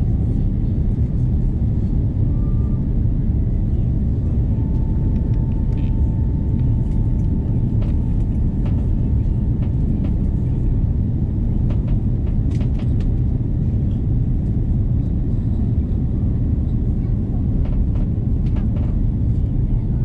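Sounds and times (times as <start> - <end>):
jet cabin roar: 0.0 - 20.0.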